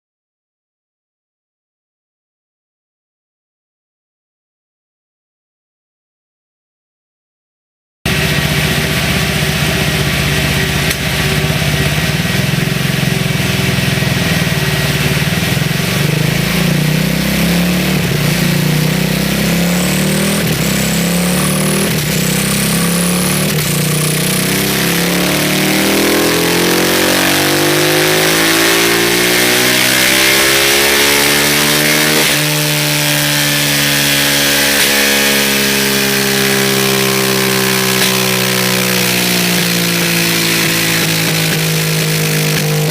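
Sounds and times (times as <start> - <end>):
motorcycle engine revving on dyno: 8.1 - 42.9.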